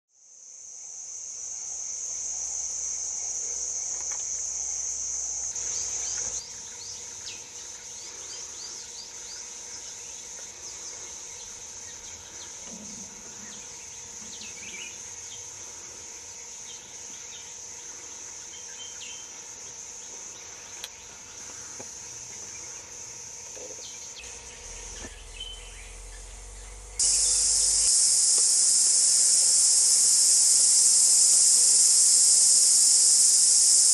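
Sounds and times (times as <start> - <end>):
insects droning: 0.2 - 33.9.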